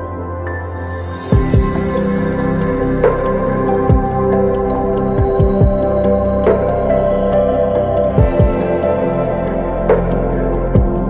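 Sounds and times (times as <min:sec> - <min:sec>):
ambient synth chords: 0:00.0 - 0:11.0.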